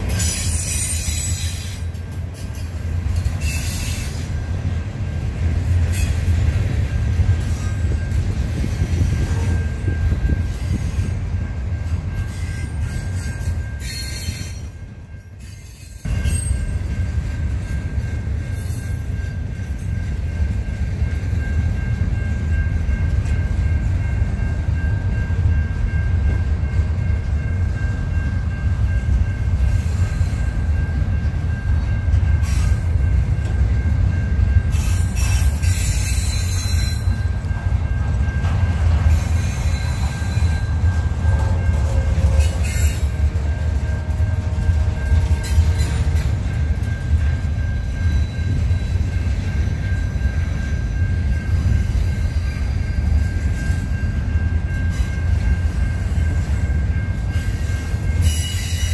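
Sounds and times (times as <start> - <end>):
wheels squealing against rail: 0.0 - 4.6, 5.8 - 20.4, 28.5 - 33.6, 34.6 - 37.6, 38.4 - 58.9
train wheels rumbling on rail: 0.0 - 58.9.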